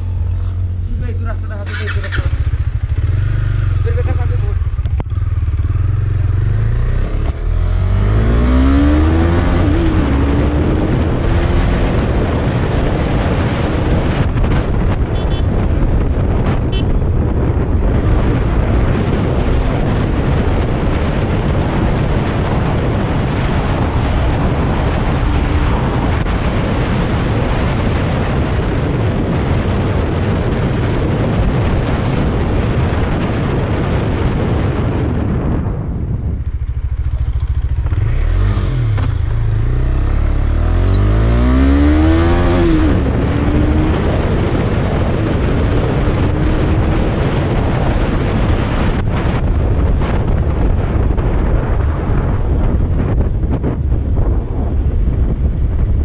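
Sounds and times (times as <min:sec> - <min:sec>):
motorcycle engine accelerating: 0:00.0 - 0:56.0
rushing wind noise: 0:00.0 - 0:56.0.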